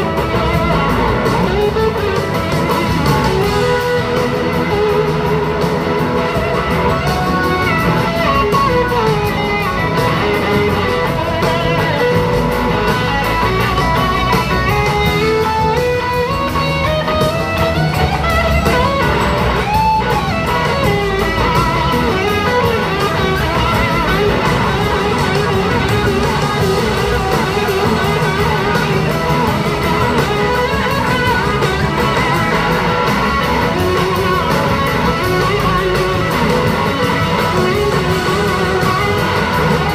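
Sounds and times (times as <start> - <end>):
blues-rock band playing: 0.0 - 39.9
electric slide guitar lead: 0.0 - 39.9.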